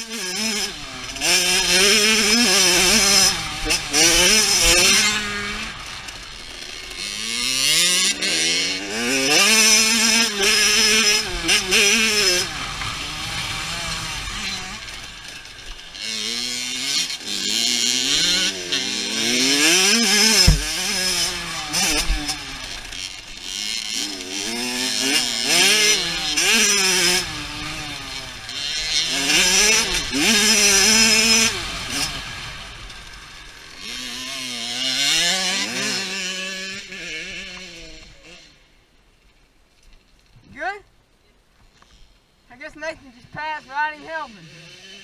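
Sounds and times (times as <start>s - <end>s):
dirt bike engine revving: 0.0s - 38.8s, 43.3s - 45.0s.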